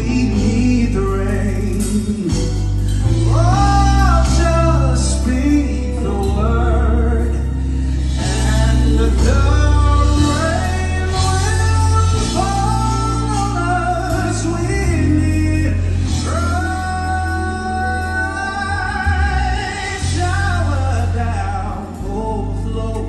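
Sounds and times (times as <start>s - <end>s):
keyboard: 0.0s - 23.0s
low bass notes: 0.0s - 23.0s
man singing gospel: 0.0s - 23.0s.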